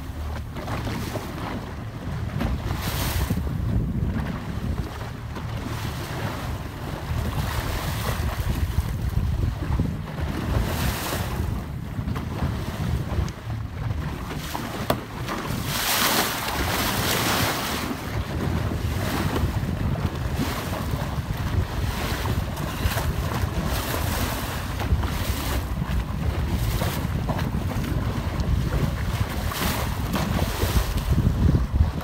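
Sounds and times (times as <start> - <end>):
water rushing along boat hull: 0.0 - 32.0
wind buffeting microphone: 0.0 - 32.0.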